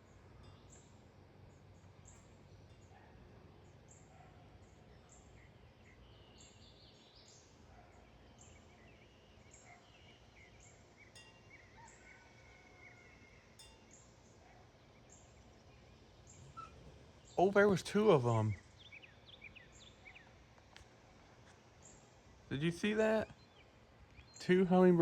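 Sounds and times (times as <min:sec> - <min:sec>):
distant birds chirping: 0:00.0 - 0:25.0.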